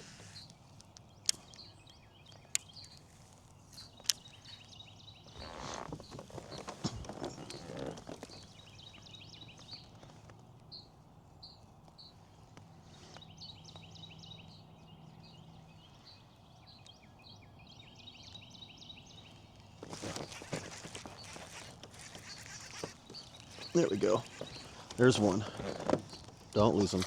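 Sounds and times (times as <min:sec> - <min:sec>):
birds chirping and singing: 0:00.2 - 0:10.1, 0:12.9 - 0:27.0.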